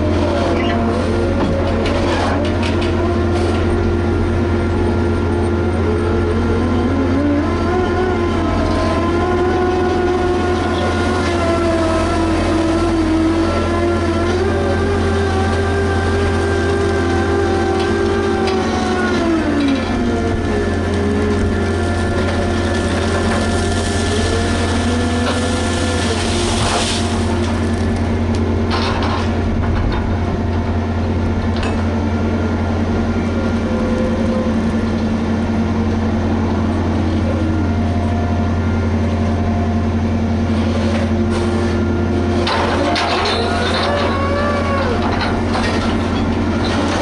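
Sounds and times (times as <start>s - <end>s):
dragline engine humming: 0.0s - 47.0s.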